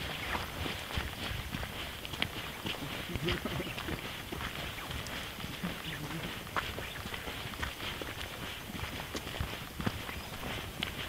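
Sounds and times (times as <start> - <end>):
footsteps on gravel path: 0.0 - 11.0.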